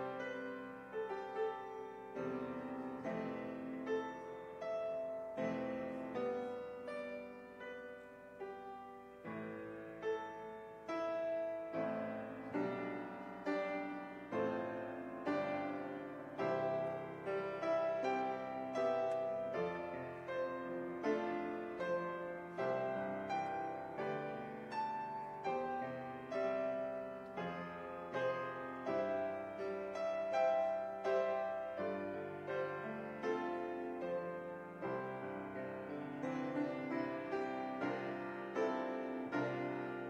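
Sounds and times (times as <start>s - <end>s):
piano chords: 0.0s - 40.0s.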